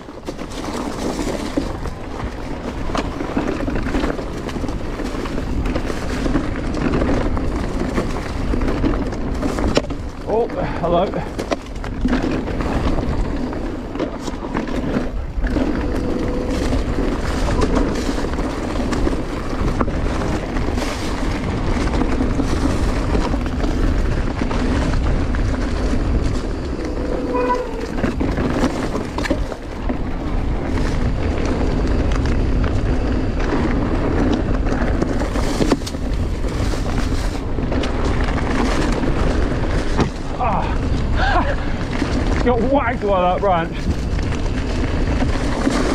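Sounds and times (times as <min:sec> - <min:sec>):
bike clicks and rattles: 0:00.0 - 0:45.9
wind and rolling tyres: 0:00.0 - 0:45.9.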